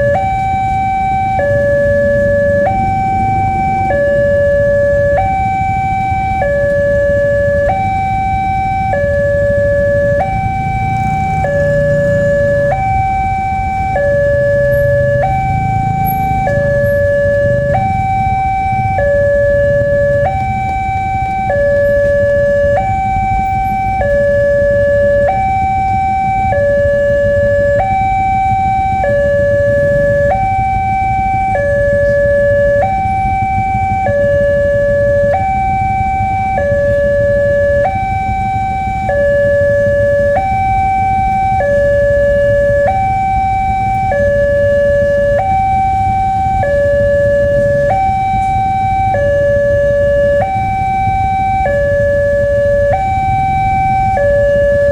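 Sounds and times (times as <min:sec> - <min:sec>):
hi-lo two-tone warning alarm: 0:00.0 - 0:54.9.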